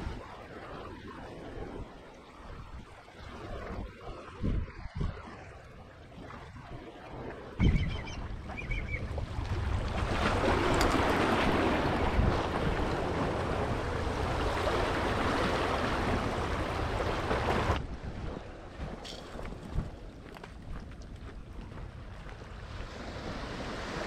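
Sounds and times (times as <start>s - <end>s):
wind and surf rushing: 0.0s - 24.0s.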